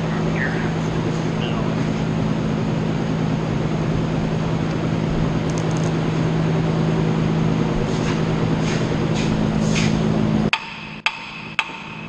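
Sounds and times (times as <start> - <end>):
concrete pump engine humming: 0.0 - 10.5.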